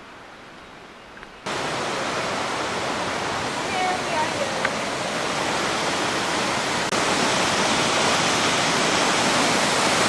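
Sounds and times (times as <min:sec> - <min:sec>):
waterfall rushing into pool: 0:01.4 - 0:10.0.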